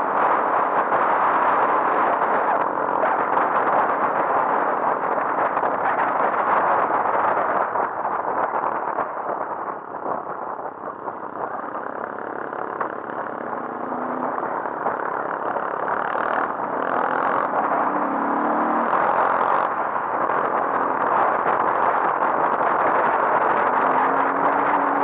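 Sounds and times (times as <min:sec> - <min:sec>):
dirt bike engine roaring: 0:00.0 - 0:25.0
wind roar on microphone: 0:00.0 - 0:25.0.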